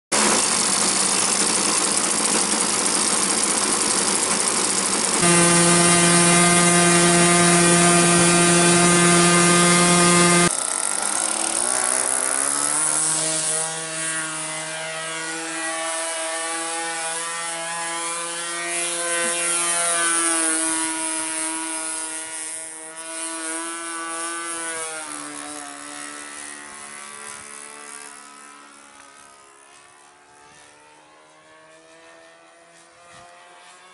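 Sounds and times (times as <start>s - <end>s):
model airplane engine droning: 0.2s - 33.9s.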